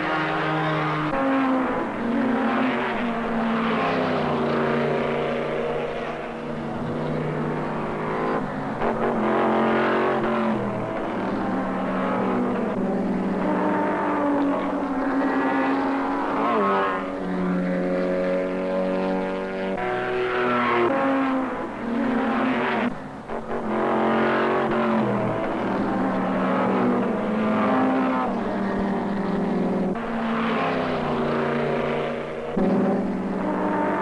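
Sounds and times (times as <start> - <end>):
racing car engines passing: 0.0 - 34.0.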